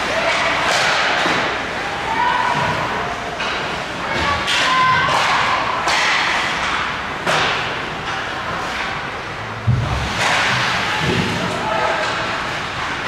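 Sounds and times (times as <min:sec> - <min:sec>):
skates scraping ice: 0:00.0 - 0:13.0.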